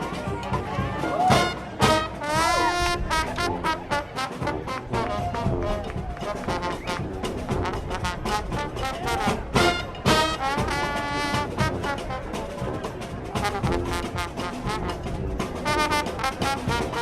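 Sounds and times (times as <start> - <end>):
brass instruments playing: 0.0 - 17.0
percussion beat: 0.0 - 17.0.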